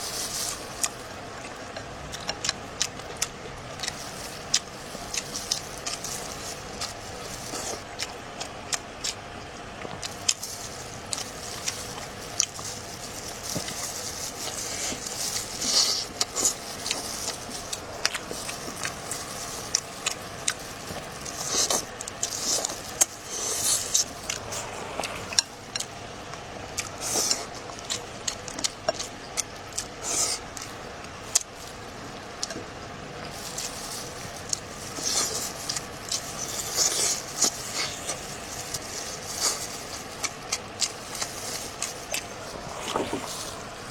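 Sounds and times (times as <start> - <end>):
chewing and mouth noises: 0.0 - 43.9.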